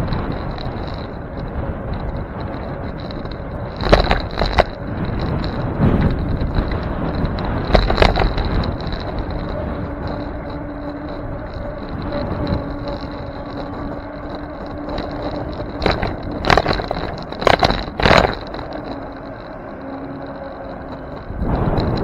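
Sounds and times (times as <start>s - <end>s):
bicycle rattling over bumps: 0.0s - 22.0s
road and wind noise: 0.0s - 22.0s
steady hum: 0.0s - 22.0s.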